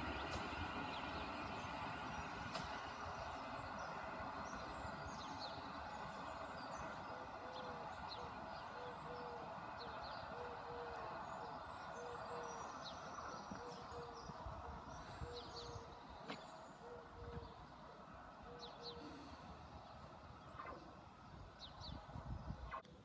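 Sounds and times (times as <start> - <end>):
low background rumble: 0.0 - 22.8
small birds chirping: 0.0 - 23.0.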